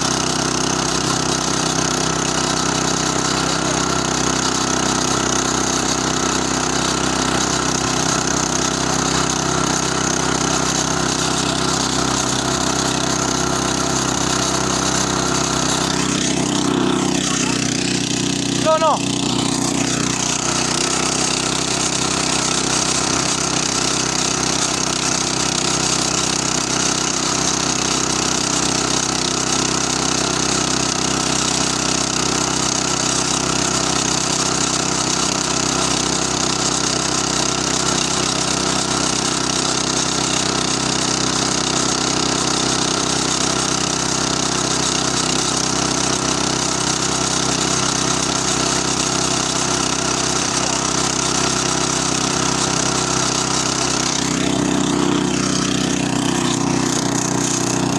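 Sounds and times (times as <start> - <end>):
small petrol engine running: 0.0 - 57.9.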